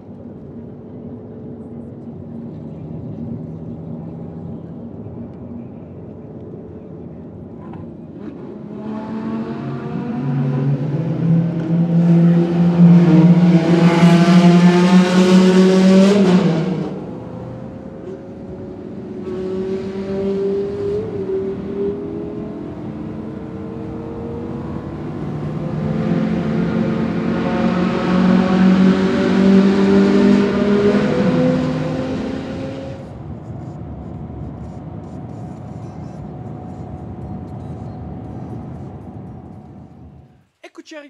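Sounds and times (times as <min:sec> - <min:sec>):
sports car engines accelerating: 0:00.1 - 0:40.3.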